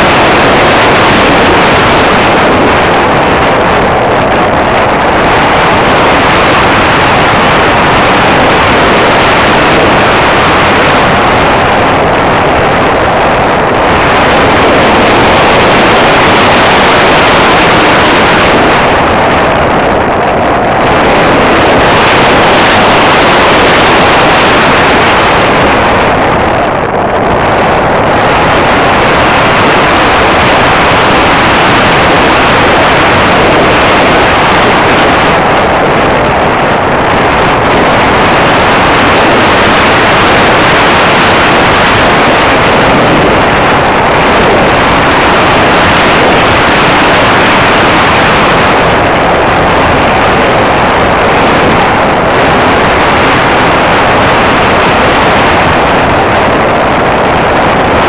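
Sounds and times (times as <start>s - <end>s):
aircraft airflow and engine: 0.0s - 58.0s.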